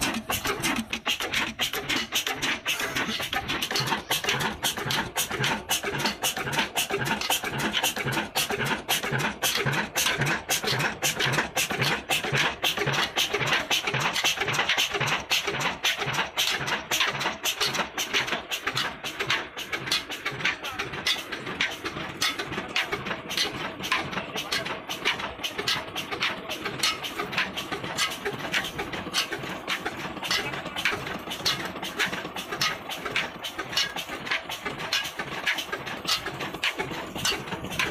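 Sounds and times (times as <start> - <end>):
diesel engine clattering: 0.0 - 37.9.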